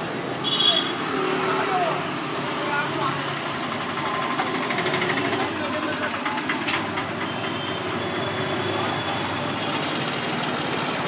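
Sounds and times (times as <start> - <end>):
traffic engines: 0.0 - 11.0.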